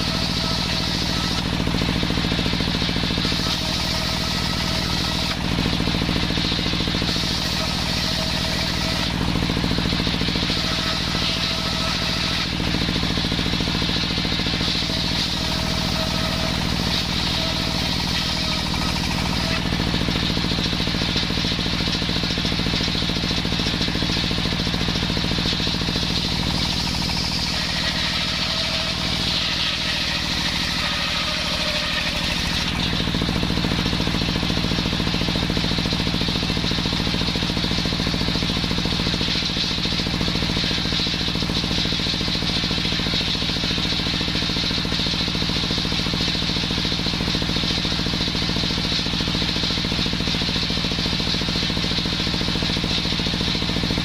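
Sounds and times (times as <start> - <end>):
circular saw engine running: 0.0 - 54.0.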